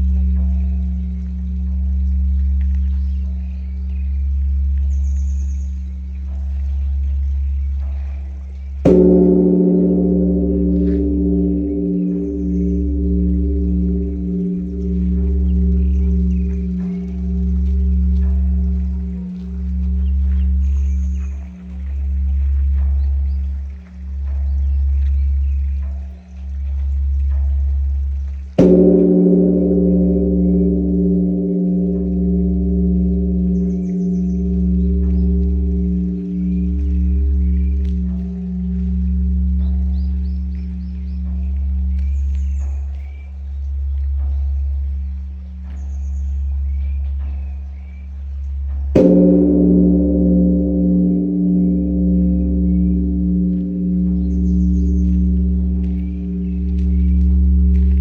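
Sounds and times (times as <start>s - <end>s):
large temple bell ringing: 0.0s - 3.4s, 5.6s - 58.0s
small birds chirping: 0.2s - 29.7s, 30.5s - 49.9s, 50.9s - 58.0s.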